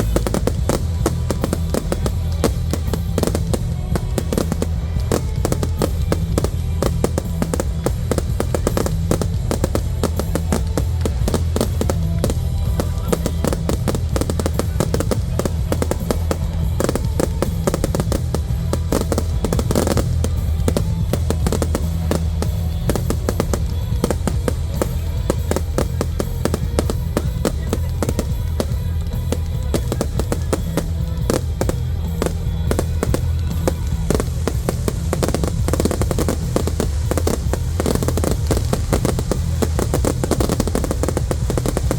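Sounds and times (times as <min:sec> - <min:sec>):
fireworks bangs and crackles: 0:00.0 - 0:41.9
music with a steady beat: 0:00.0 - 0:41.9.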